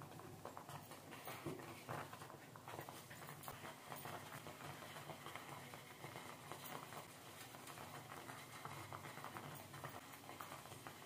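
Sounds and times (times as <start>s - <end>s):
bubbles popping in simmering pot: 0.0s - 11.0s.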